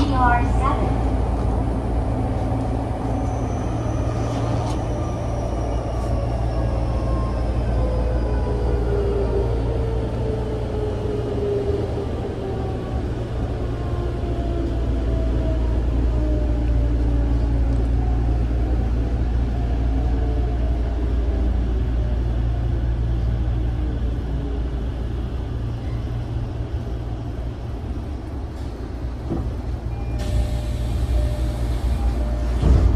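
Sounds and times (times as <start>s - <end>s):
train running gear rumble: 0.0s - 32.9s.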